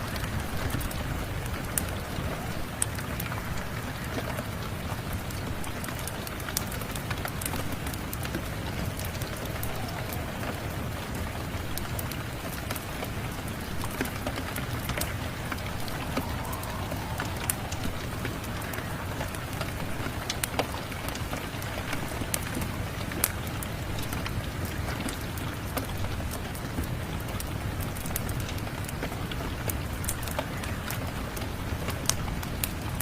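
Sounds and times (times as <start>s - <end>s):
steady rain: 0.0s - 33.0s
wood fire crackling: 0.0s - 33.0s.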